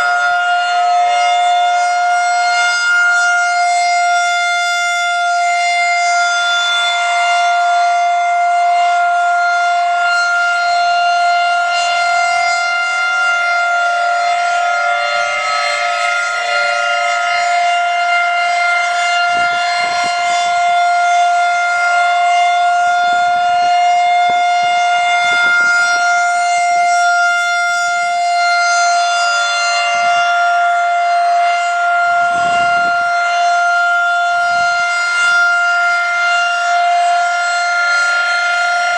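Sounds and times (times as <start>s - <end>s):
storm siren steady tone: 0.0s - 38.9s.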